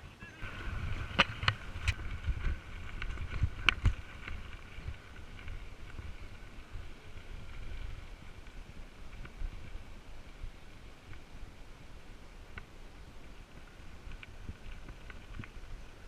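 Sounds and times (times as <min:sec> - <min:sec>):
wind on microphone: 0:00.1 - 0:16.0
bicycle clicks and rattles: 0:00.4 - 0:10.0, 0:12.5 - 0:16.0
bicycle rumbling over dirt: 0:00.4 - 0:16.0.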